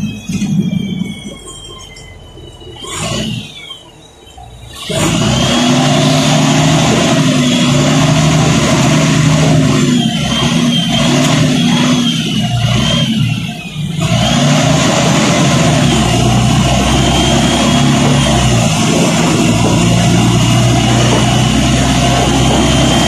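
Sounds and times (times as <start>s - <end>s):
bus diesel engine: 0.0s - 23.0s
high whine: 0.0s - 23.0s.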